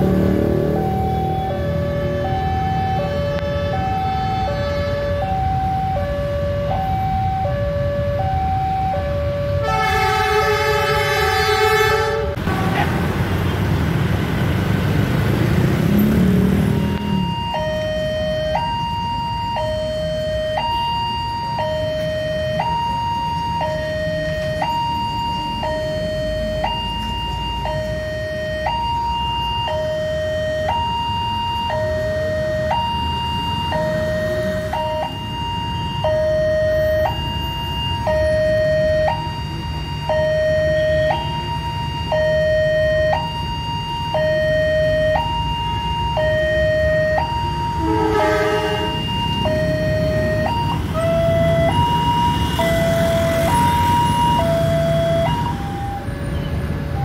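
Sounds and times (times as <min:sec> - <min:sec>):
two-tone crossing alarm: 0:00.0 - 0:12.4, 0:16.5 - 0:57.0.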